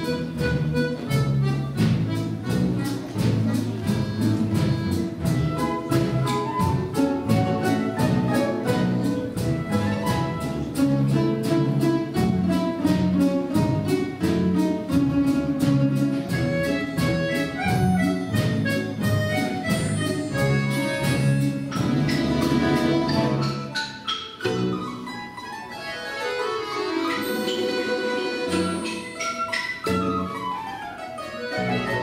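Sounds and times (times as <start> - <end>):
plucked string orchestra playing: 0.0 - 32.0.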